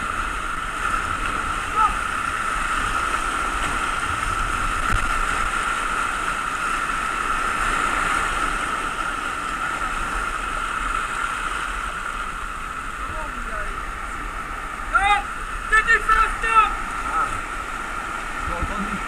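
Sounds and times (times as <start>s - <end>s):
whitewater rapids rushing: 0.0s - 19.0s.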